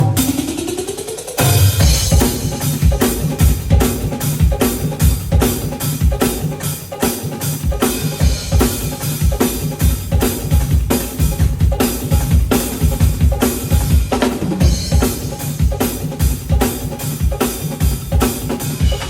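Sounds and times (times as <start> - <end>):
drum kit groove: 0.0 - 19.0.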